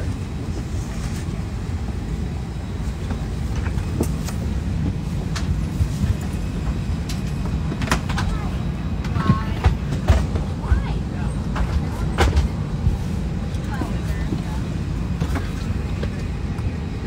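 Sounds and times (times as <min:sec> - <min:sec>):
airliner cabin low rumble: 0:00.0 - 0:17.0.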